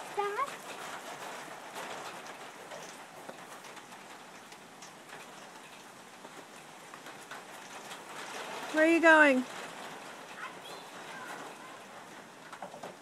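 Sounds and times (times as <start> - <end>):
raindrops ticking close by: 0.0 - 13.0
steady rain hiss: 0.0 - 13.0.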